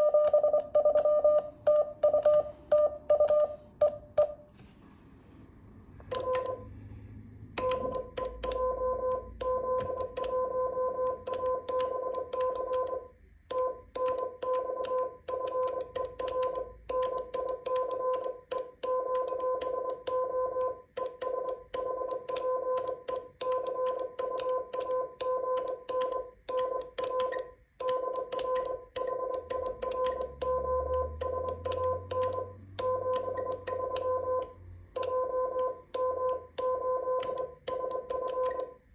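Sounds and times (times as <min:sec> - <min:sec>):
morse code sidetone beeping: 0:00.0 - 0:04.4, 0:06.1 - 0:06.7, 0:07.6 - 0:38.8.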